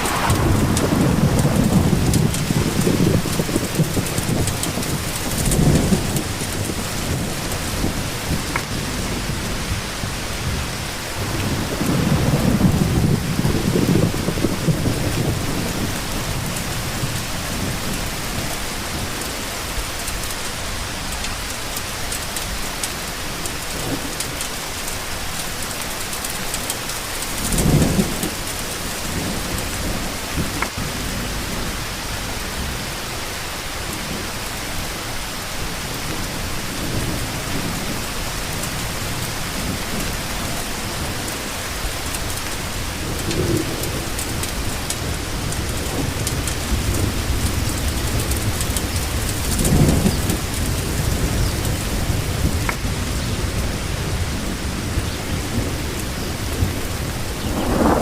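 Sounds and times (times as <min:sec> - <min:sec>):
low rolls of thunder: 0:00.0 - 0:20.4, 0:26.4 - 0:33.0, 0:35.8 - 0:58.0
steady rain falling: 0:00.0 - 0:58.0.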